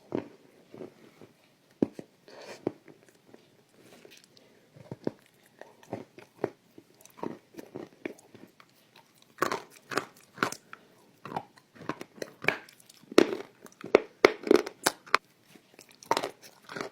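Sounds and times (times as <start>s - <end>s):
crunchy chewing: 2.5s - 16.9s.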